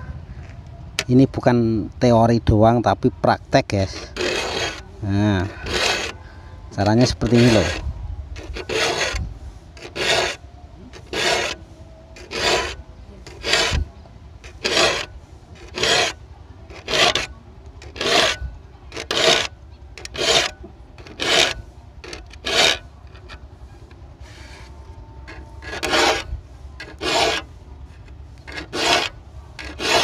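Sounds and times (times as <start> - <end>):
file strokes on saw teeth: 3.7 - 7.8, 8.4 - 30.0.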